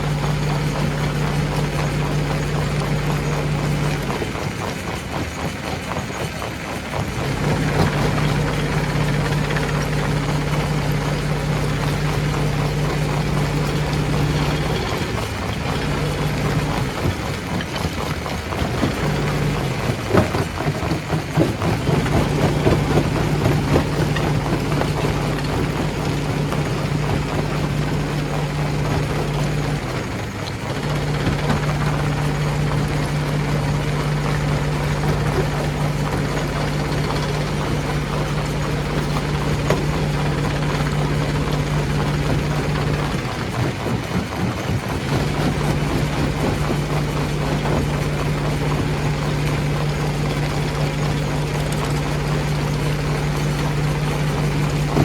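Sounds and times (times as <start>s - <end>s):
stone crusher machine running: 0.0s - 55.0s.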